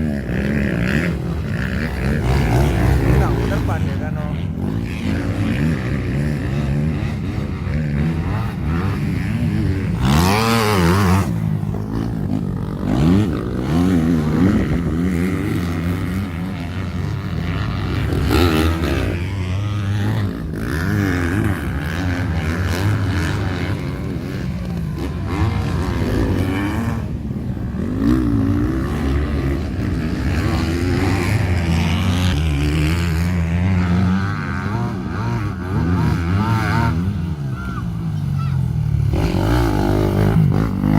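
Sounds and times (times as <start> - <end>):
racing motorcycle engines revving: 0.0 - 40.9.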